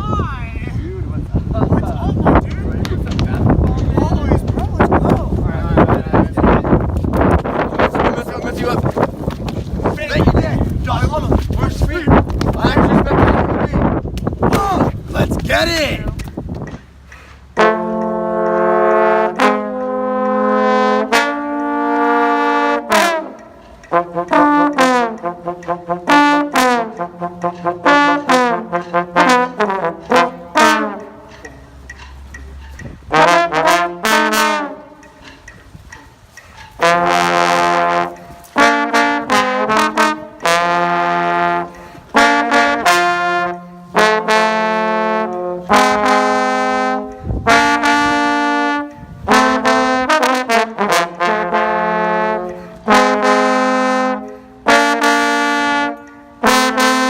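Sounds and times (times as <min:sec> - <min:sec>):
brass instruments playing: 0:04.4 - 0:14.0, 0:17.5 - 0:57.0.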